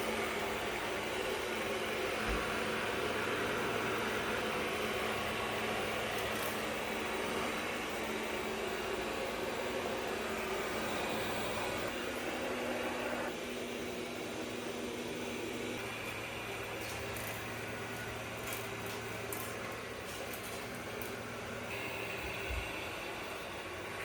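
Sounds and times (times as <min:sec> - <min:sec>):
robot vacuum whirring hum: 0:00.0 - 0:24.0.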